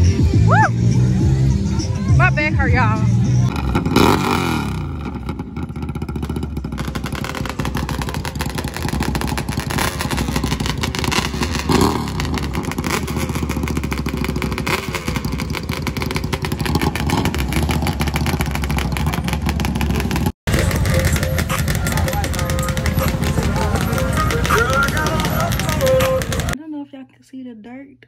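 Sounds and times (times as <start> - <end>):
off-road engines revving: 0.0 - 26.6.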